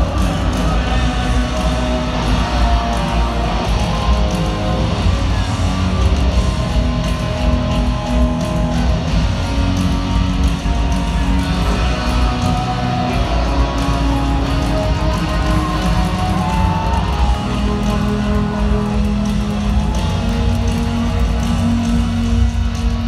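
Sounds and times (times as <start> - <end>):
live rock band: 0.0 - 23.0.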